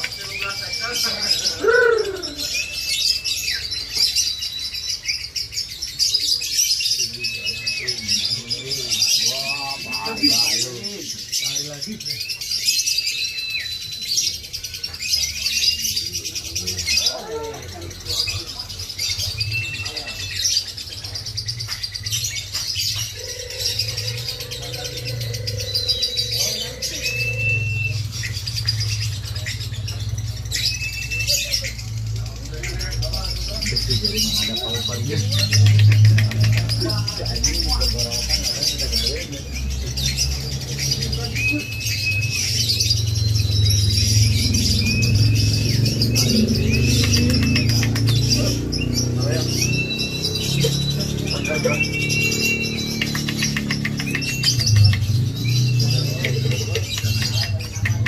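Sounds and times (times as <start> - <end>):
lovebird chirping: 0.0 - 17.4, 18.1 - 58.0.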